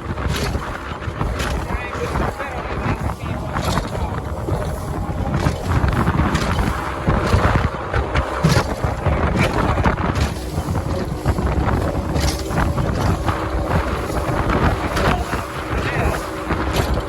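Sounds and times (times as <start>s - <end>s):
motorboat running: 0.0s - 17.0s
wind buffeting microphone: 0.0s - 17.0s.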